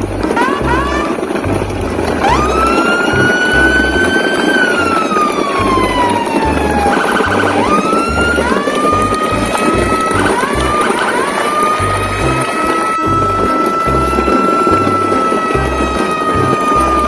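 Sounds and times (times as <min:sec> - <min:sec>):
background music with low beat: 0:00.0 - 0:17.0
siren-like sound effect: 0:00.0 - 0:17.0.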